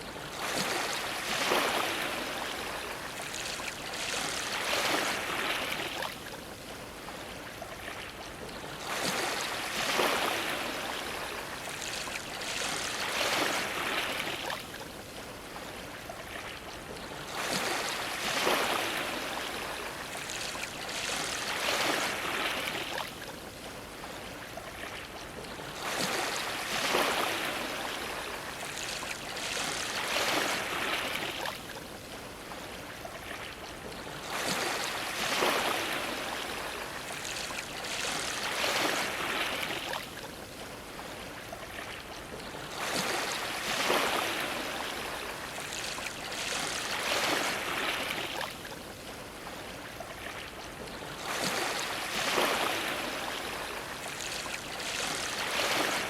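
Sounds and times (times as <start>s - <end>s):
ocean waves splashing against dock: 0.0s - 56.0s.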